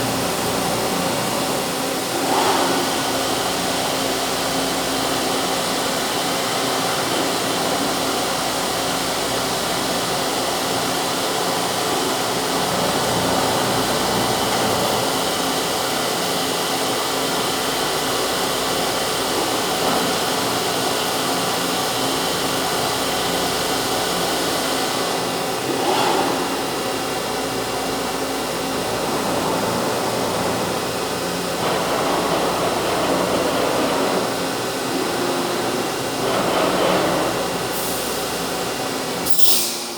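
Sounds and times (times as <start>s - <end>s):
machine whirring and humming: 0.0s - 39.9s.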